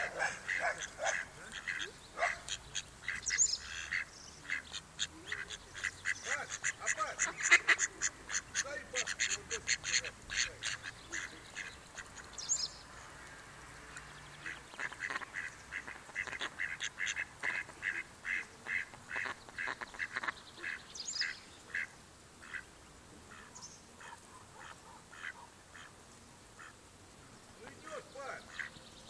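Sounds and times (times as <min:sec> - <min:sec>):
ducks quacking: 0:00.0 - 0:13.4, 0:14.3 - 0:22.7, 0:23.3 - 0:26.0, 0:26.6 - 0:26.8, 0:27.6 - 0:28.8.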